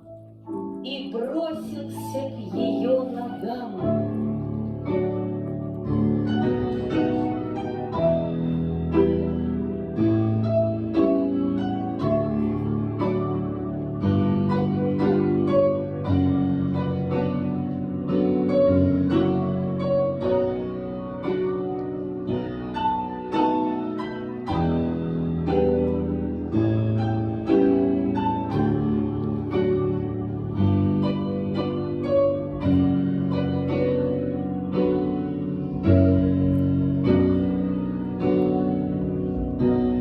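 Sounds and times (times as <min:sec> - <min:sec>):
slow instrumental music: 0:00.0 - 0:40.0.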